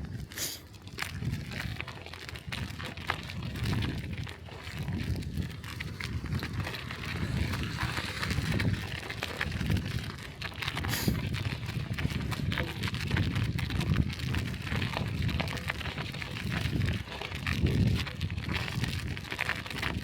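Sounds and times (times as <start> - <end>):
bicycle tyres clicking and crackling: 0.0 - 20.0
wind buffeting microphone: 1.0 - 20.0.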